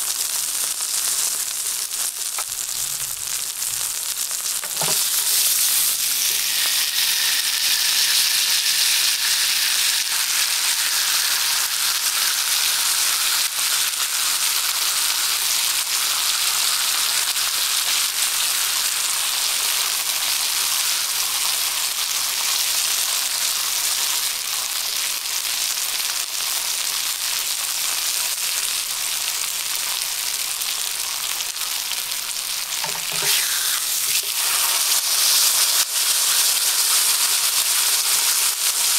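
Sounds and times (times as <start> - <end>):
steak sizzling in a pan: 0.0 - 38.9.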